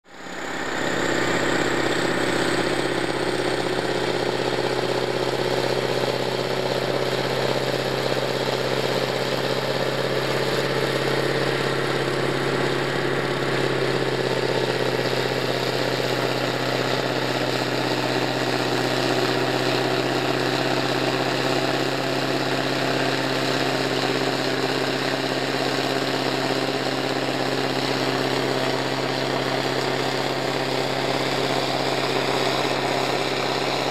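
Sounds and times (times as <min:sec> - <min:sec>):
snow blower engine drone: 0:00.0 - 0:33.9.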